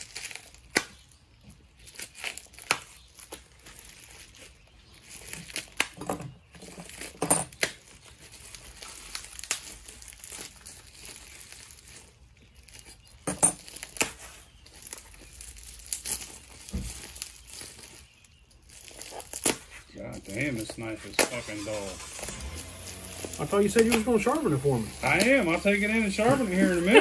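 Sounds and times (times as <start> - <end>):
plastic packaging crinkling and tearing: 0.0 - 6.0, 6.6 - 27.0.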